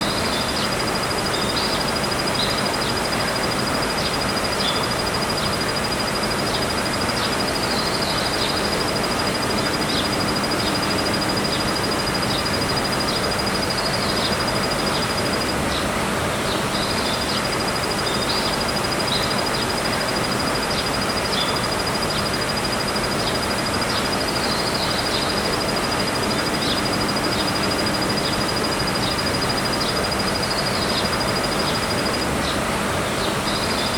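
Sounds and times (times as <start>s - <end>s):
cricket high-pitched trill: 0.0s - 33.9s.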